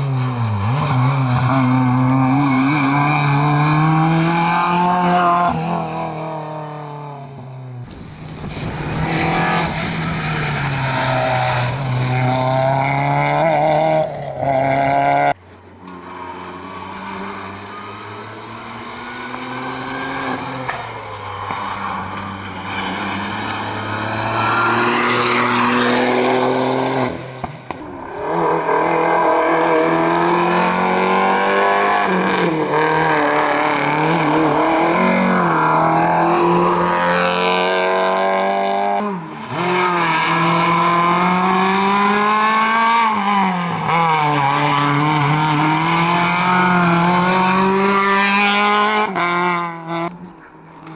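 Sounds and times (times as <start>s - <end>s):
rally car engine revving: 0.0s - 7.1s, 7.8s - 50.9s.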